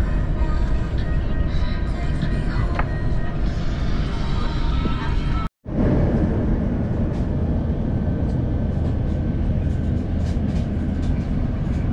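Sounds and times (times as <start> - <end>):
vehicle rumble from inside: 0.0 - 11.9.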